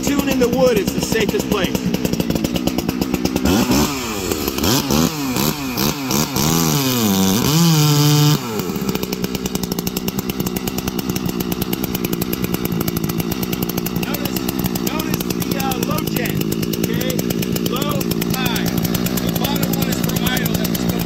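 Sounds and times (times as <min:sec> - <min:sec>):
chainsaw revving and cutting log: 0:00.0 - 0:21.0.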